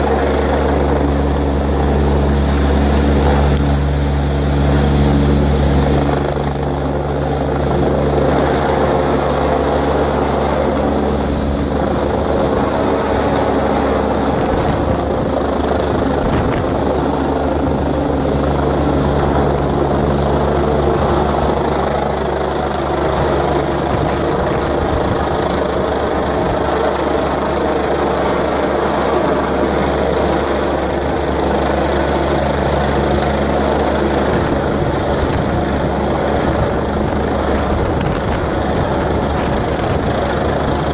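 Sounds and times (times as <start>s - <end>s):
helicopter flying overhead: 0.0s - 40.9s.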